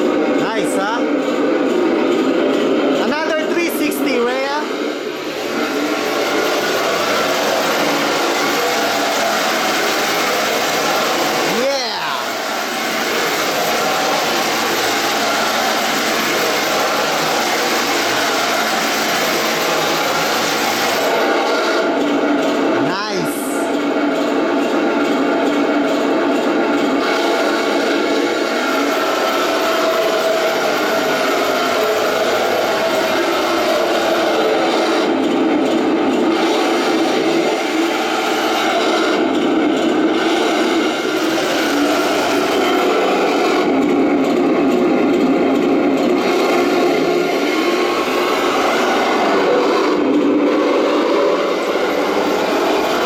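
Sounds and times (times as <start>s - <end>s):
toy tank motors and tracks grinding: 1.2s - 23.4s, 24.1s - 53.0s.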